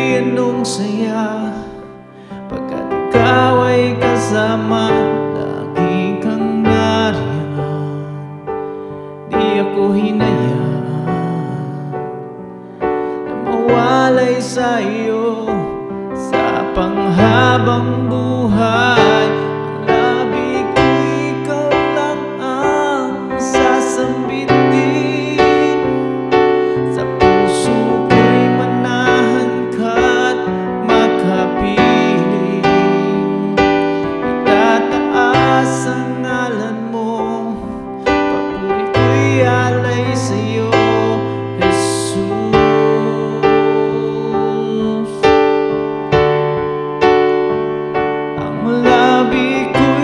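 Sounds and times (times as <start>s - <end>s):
piano chords: 0.0s - 50.0s.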